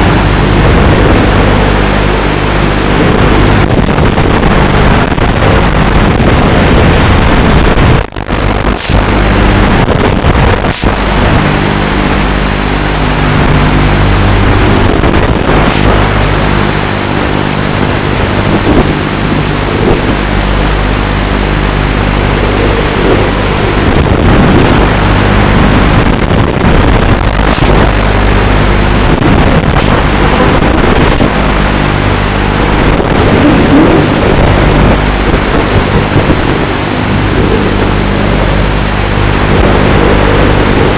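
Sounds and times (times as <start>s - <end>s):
quadcopter motors and propellers: 0.0s - 40.9s
wind noise on microphone: 0.0s - 40.9s.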